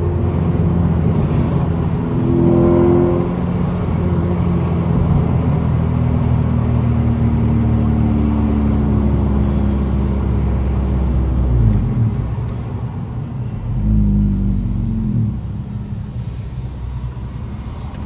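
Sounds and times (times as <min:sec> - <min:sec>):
car engine revving through exhaust: 0:00.0 - 0:18.0.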